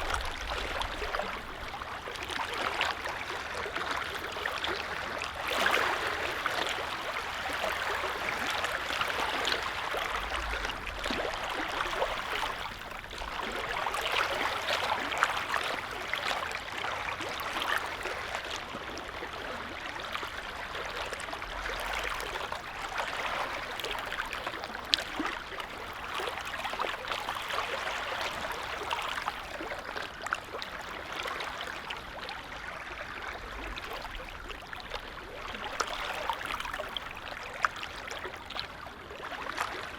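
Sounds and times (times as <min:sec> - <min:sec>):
lake waves lapping and splashing: 0:00.0 - 0:39.9.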